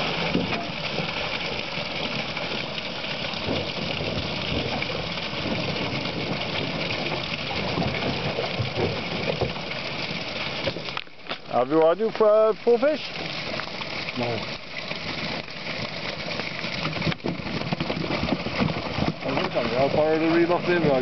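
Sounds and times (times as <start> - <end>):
engine or pump hum: 0.0 - 21.0
water gushing from pipe: 0.0 - 21.0.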